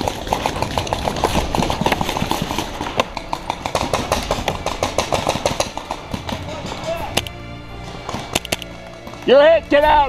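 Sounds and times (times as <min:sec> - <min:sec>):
paintball markers firing: 0:00.0 - 0:09.4.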